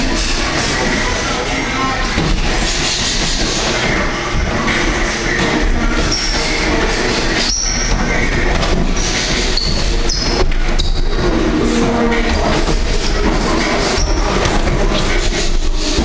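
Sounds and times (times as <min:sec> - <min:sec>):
loud steady din: 0:00.0 - 0:16.0.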